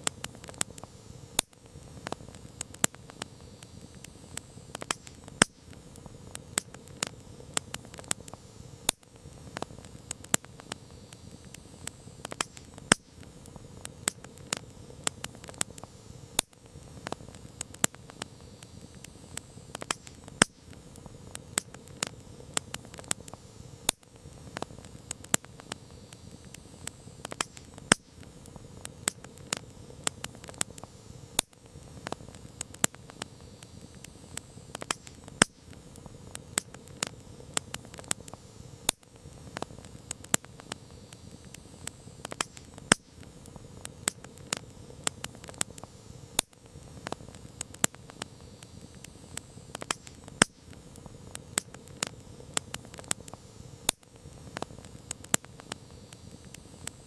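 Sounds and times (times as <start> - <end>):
campfire pops and snaps: 0.0 - 57.0
soft rush of burning fire: 0.0 - 57.0.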